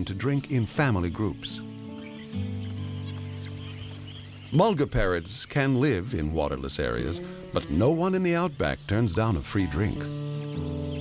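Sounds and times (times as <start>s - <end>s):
sustained background music chord: 0.0s - 11.0s.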